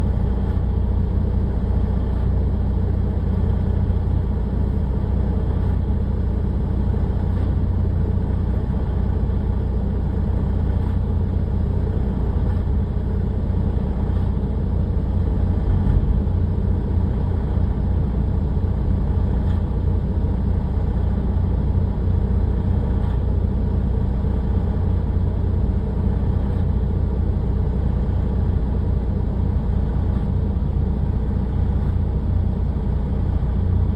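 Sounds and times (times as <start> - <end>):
crane engine rumbling: 0.0 - 33.9.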